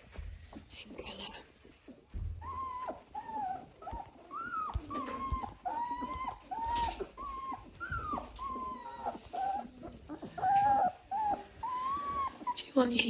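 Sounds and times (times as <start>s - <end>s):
puppies whimpering and squealing: 0.4s - 13.0s.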